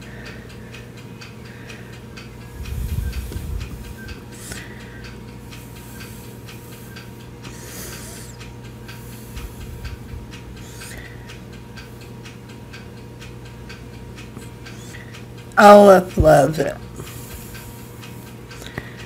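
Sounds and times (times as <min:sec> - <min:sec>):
low electrical hum: 0:00.0 - 0:19.0
regular ticking: 0:00.0 - 0:19.0.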